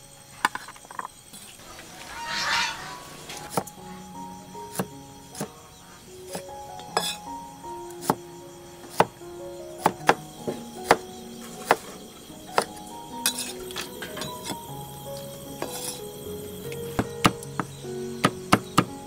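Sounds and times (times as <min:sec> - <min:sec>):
background music: 0:01.6 - 0:19.0.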